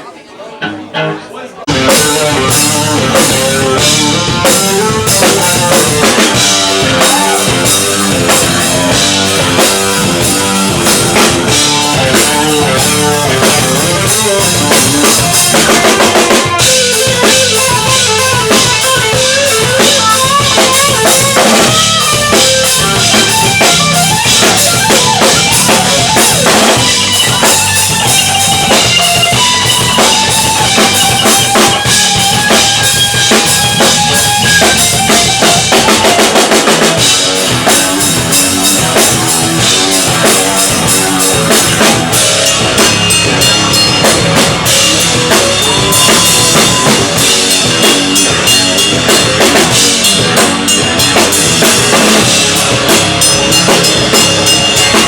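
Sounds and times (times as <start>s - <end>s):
drum kit beat: 0.6s - 55.0s
live rock band: 0.6s - 55.0s.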